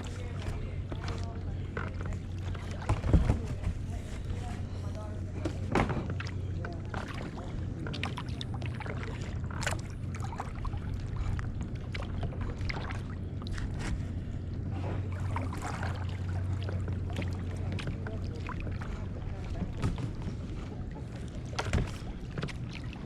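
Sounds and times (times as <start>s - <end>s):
low hum: 0.0s - 23.0s
paddle splashing in water: 0.0s - 23.0s.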